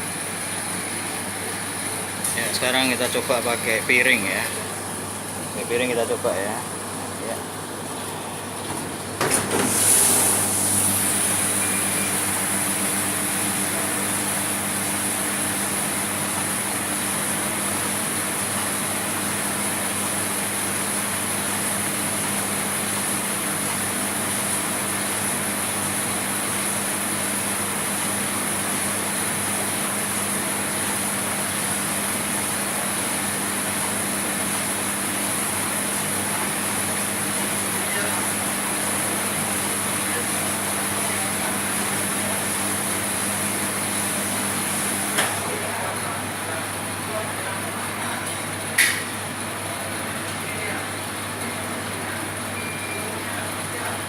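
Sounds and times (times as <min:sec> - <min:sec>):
dishwasher pump motor hum: 0:00.0 - 0:54.0.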